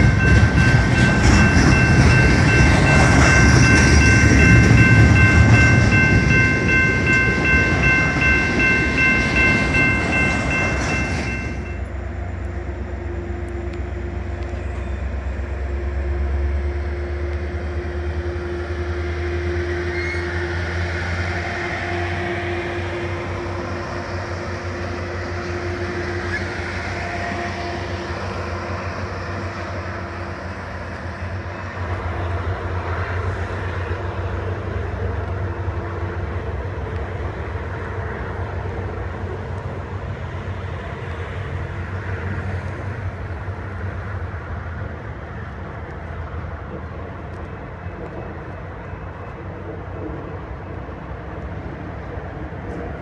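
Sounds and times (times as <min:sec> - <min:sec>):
train coaches rumbling past: 0:00.0 - 0:53.0.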